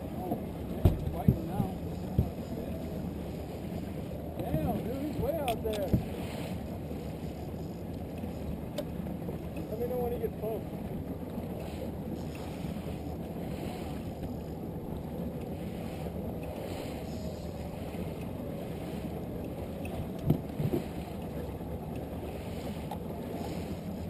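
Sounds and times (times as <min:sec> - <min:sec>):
small outboard motor running: 0:00.0 - 0:24.0
water noise: 0:00.0 - 0:24.0
wind: 0:00.0 - 0:24.0.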